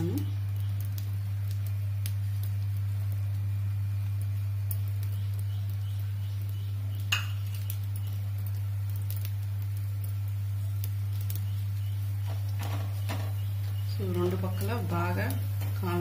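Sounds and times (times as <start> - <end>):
food sizzling on a pan: 0.0 - 16.0
steady low hum: 0.0 - 16.0.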